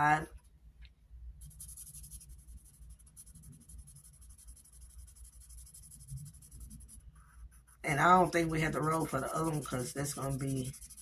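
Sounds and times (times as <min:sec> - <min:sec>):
low room hum: 0:00.0 - 0:11.0
pen scratching on paper: 0:01.4 - 0:11.0.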